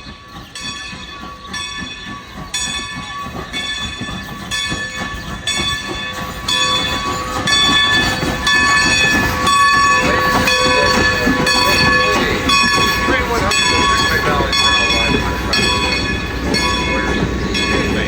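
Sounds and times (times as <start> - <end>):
locomotive bell ringing: 0.0 - 18.0
rumble of steam train: 0.0 - 18.0.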